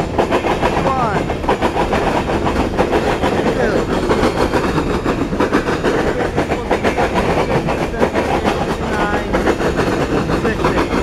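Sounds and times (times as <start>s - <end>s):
freight train rumbling past: 0.0s - 11.0s
wheels clicking over rail joints: 0.0s - 11.0s.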